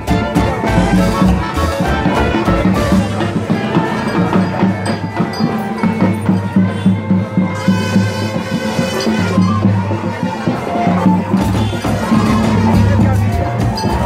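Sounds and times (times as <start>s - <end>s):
music with percussive beat and melody: 0.0s - 14.0s.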